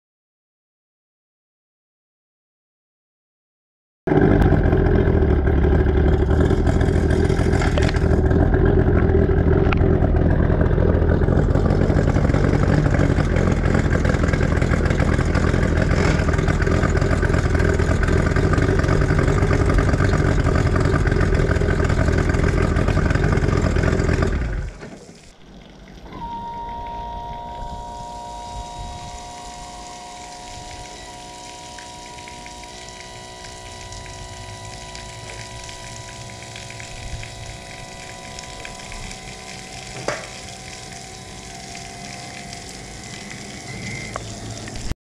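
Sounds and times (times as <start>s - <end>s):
outboard motor running: 4.1s - 45.0s.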